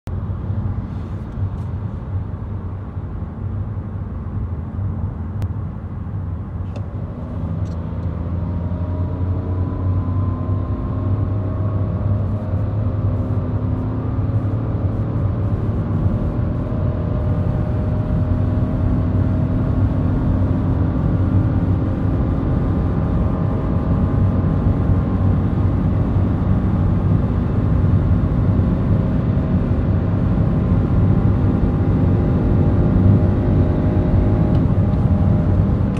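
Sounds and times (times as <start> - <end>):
road noise: 0.1 - 35.9
car engine revving under full throttle: 6.7 - 35.9.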